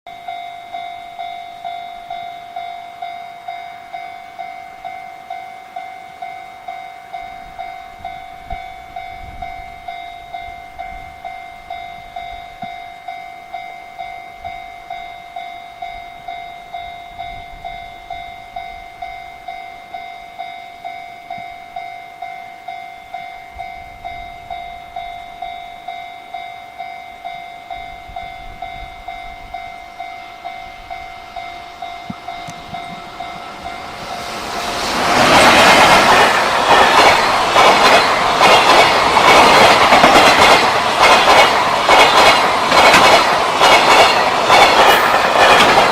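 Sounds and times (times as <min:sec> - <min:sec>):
level crossing warning bell: 0:00.1 - 0:45.9.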